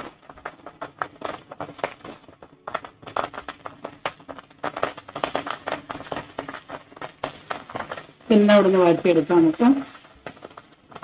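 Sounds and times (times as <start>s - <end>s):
frying in hot oil with pops: 0.0s - 11.0s.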